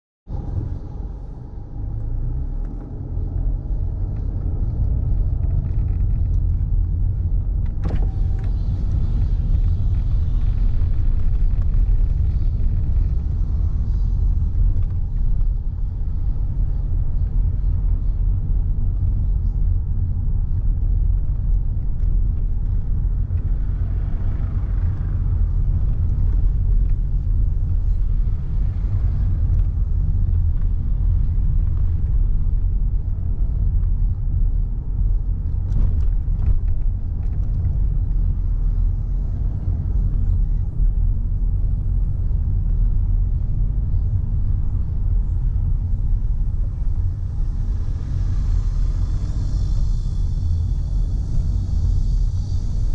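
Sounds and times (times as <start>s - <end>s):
car driving interior rumble: 0.3s - 52.9s.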